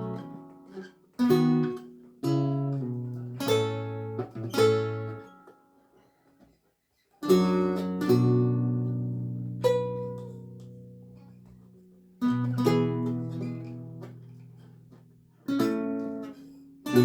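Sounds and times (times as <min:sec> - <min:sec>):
lute plucked chords: 0:00.0 - 0:05.6, 0:07.3 - 0:17.0.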